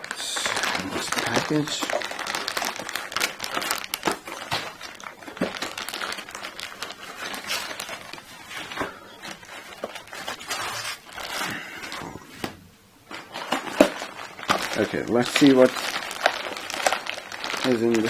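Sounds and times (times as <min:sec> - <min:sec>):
packaging crinkling and rustling: 0:00.0 - 0:18.0.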